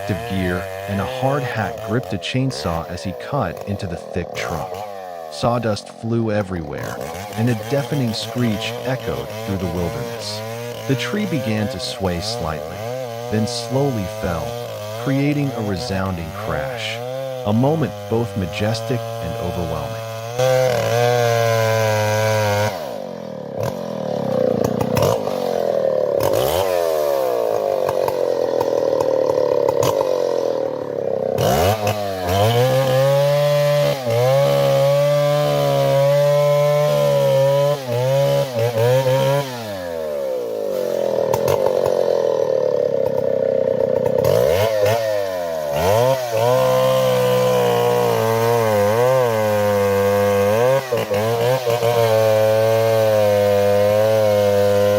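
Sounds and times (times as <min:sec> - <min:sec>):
chainsaw cutting timber: 0:00.0 - 0:54.9.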